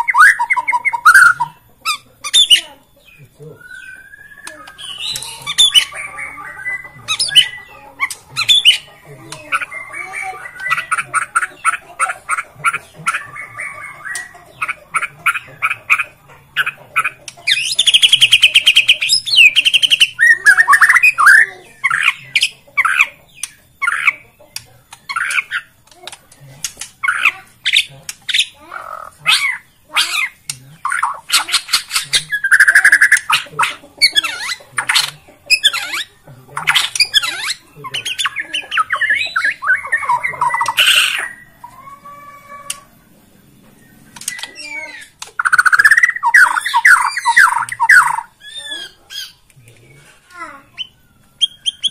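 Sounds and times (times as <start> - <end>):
bird singing loudly: 0.0 - 11.8, 12.6 - 24.2, 27.0 - 42.9, 44.3 - 49.4, 50.7 - 51.9.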